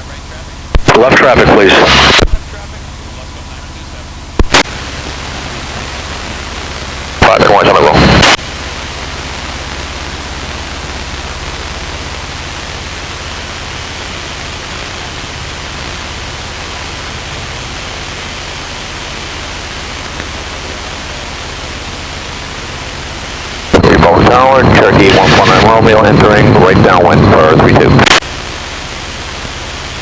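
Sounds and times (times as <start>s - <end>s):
headset intercom hiss: 0.0s - 3.8s, 4.4s - 30.0s
aircraft engine drone: 0.0s - 30.0s.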